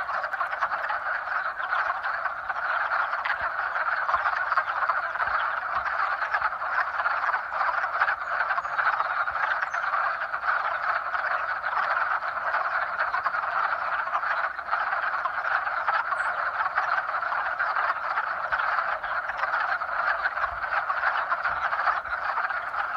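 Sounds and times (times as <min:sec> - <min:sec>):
chorus of frogs croaking: 0:00.0 - 0:22.9.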